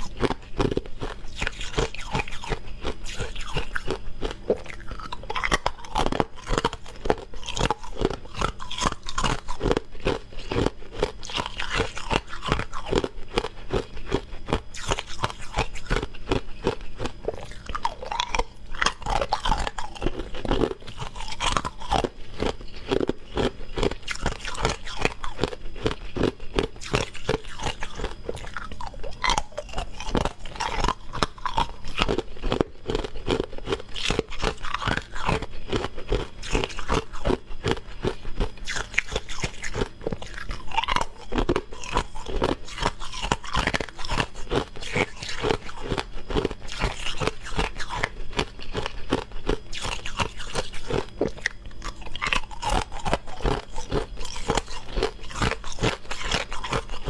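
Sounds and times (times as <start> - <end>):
crunching ice cubes: 0.0 - 57.0.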